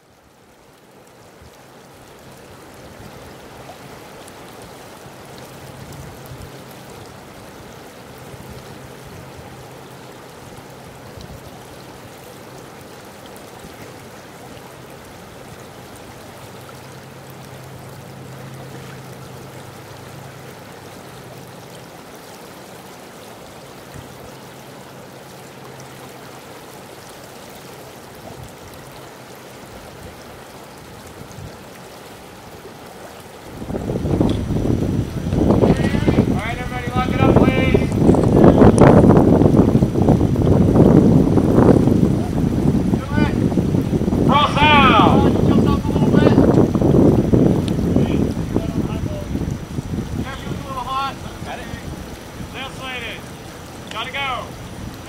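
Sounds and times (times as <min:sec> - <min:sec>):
flowing river water: 0:00.0 - 0:55.0.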